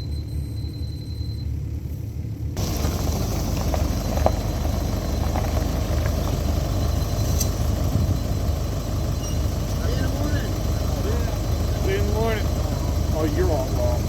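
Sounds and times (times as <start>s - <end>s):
diesel excavator engine rumbling: 0.0s - 14.0s.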